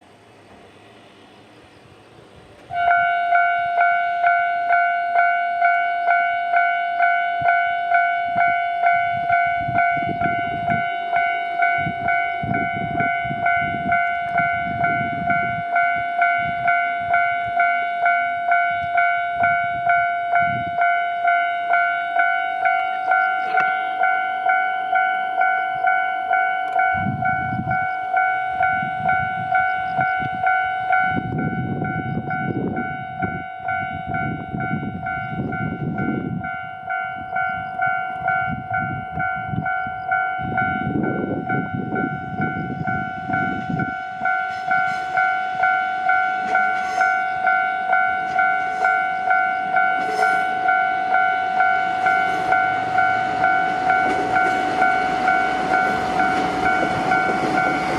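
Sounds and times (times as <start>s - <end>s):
level-crossing alarm bell ringing: 2.8s - 57.9s.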